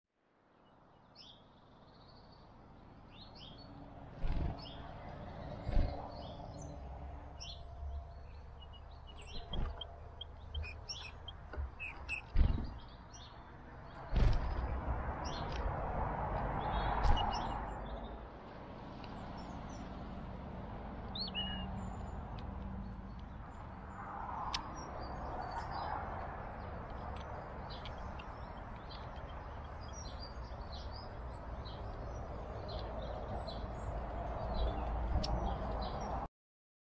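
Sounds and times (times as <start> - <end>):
small songbirds chirping: 0.5 - 15.7, 16.3 - 36.3.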